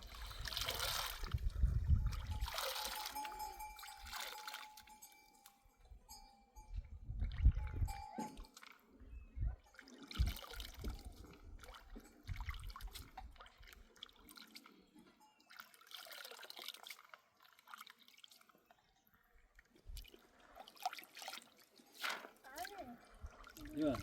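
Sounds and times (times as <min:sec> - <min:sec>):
water pouring and splashing: 0:00.0 - 0:05.1, 0:07.1 - 0:08.9, 0:09.7 - 0:18.8, 0:19.6 - 0:24.0.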